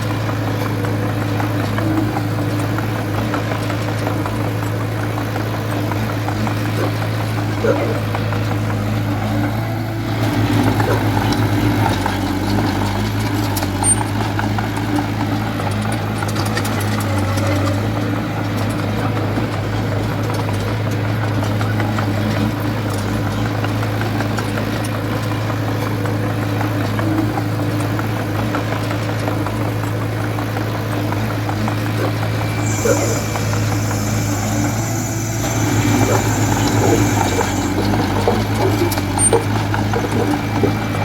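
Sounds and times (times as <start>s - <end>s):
diesel engine humming: 0.0s - 41.0s.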